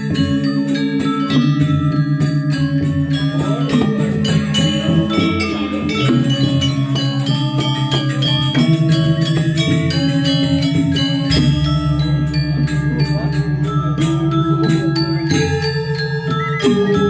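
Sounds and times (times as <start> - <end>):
gamelan playing: 0.0 - 17.0.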